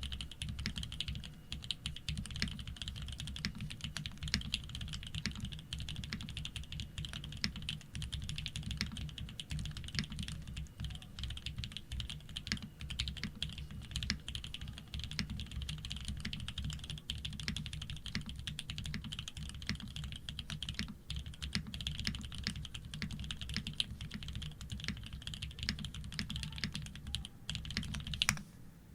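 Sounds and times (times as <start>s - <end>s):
fast mechanical keyboard typing: 0.0s - 28.4s.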